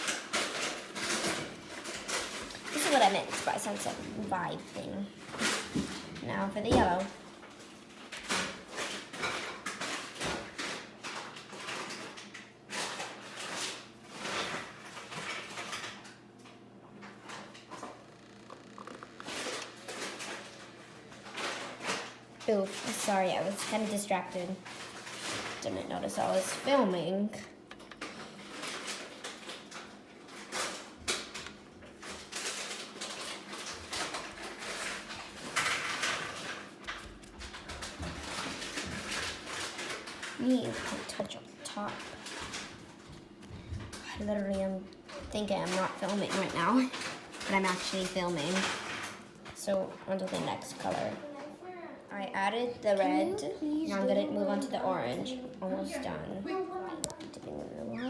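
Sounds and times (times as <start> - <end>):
rustling and scraping handling: 0.0 - 16.1, 18.9 - 27.1, 27.7 - 51.6.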